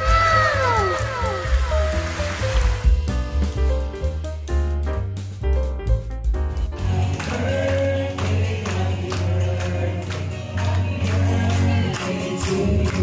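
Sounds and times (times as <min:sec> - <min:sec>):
music with steady beat and bass: 0:00.0 - 0:13.0.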